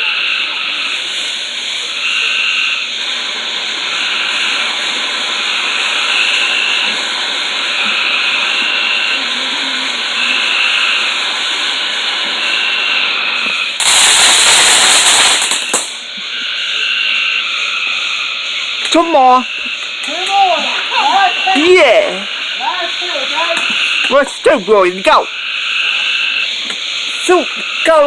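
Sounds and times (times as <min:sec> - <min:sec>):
firework fountain hissing: 0:00.0 - 0:28.0.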